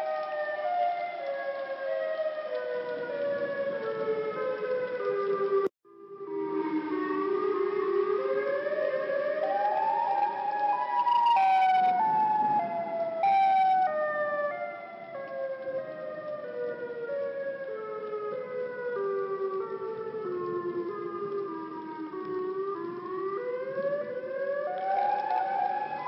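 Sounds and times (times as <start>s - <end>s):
warning siren stepping in pitch: 0.0s - 26.0s.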